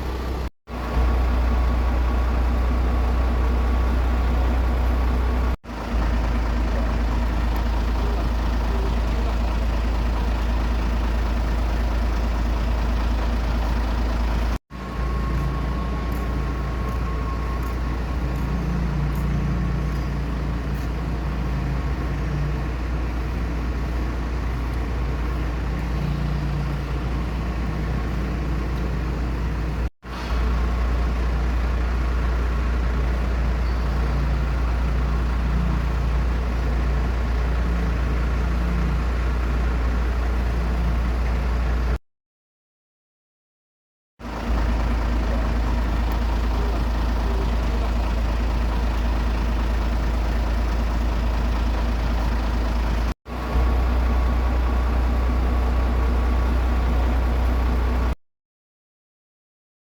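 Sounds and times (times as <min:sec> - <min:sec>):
vehicle engine low rumble: 0:00.0 - 0:42.0, 0:44.2 - 0:58.2.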